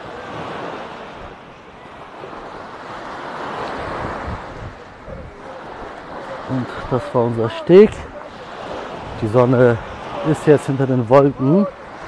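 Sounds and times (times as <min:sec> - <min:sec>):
wind rumbling on microphone: 0:00.0 - 0:07.1, 0:07.8 - 0:12.0
waves washing onto beach: 0:00.0 - 0:12.0.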